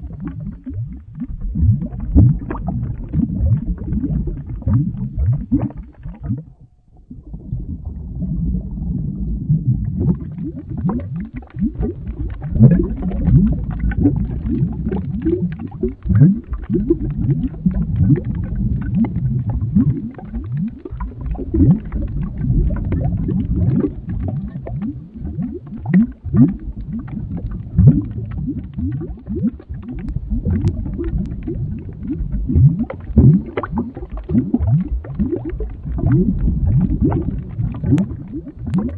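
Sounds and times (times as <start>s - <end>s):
liquid bubbling at a boil: 0.0s - 38.9s.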